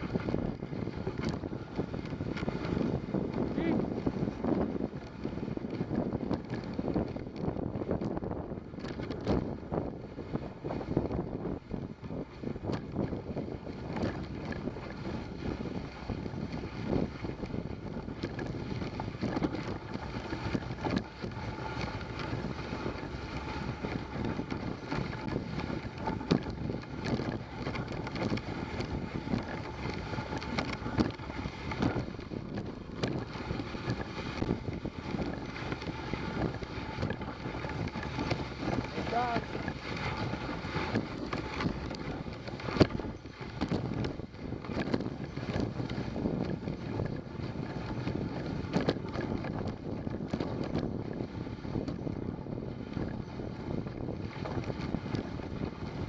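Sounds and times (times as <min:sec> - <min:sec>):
sled knocks and rattles: 0:00.0 - 0:56.0
wind buffeting microphone: 0:00.0 - 0:56.0.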